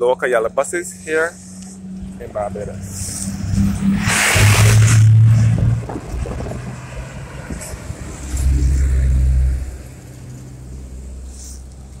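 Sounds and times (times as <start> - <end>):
low rumble: 0.8 - 10.9.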